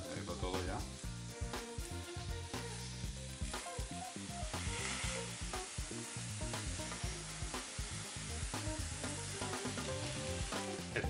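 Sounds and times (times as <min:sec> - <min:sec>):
vegetables sizzling on a griddle: 0:00.0 - 0:11.0.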